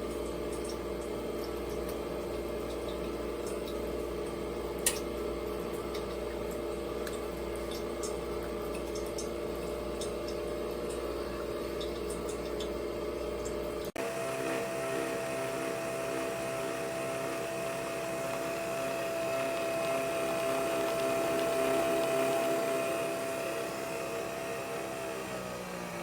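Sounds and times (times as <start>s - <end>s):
coffee dripping into cup: 0.0s - 13.6s, 16.0s - 24.3s
coffee machine motor hum: 0.0s - 26.0s.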